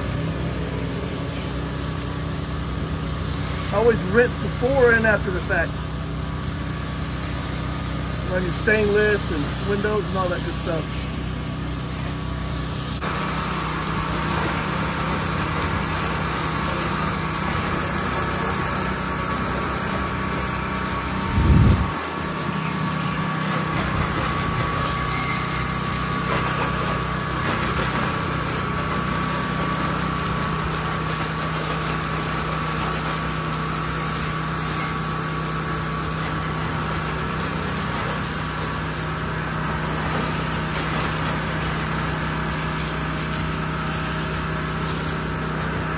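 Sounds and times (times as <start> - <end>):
pressure washer engine running: 0.0 - 45.9.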